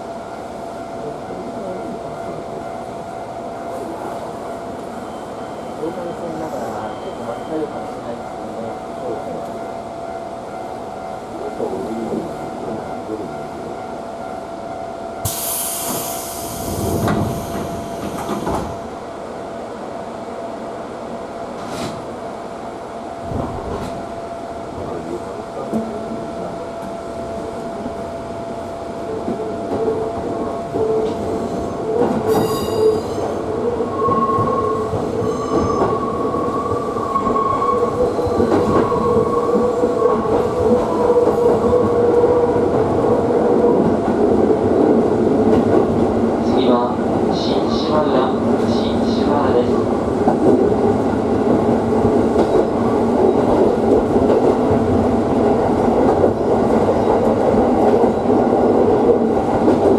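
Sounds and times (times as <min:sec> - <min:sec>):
train running noise: 0:00.0 - 0:19.1, 0:21.4 - 0:59.9.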